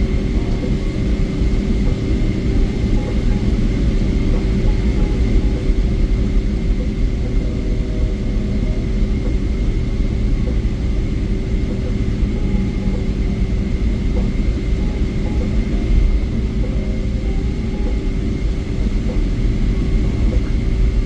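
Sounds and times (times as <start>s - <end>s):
airplane cabin rumble: 0.0s - 21.0s
faint hum: 0.0s - 21.0s.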